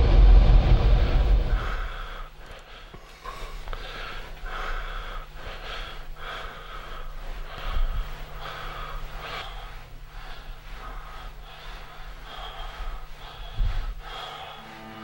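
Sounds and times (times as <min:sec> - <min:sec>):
low steady hum: 0:00.0 - 0:15.0
person breathing heavily: 0:00.0 - 0:15.0.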